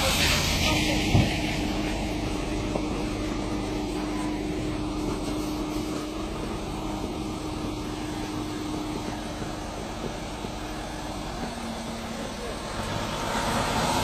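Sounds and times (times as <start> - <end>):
car engine under load: 0.0 - 14.0.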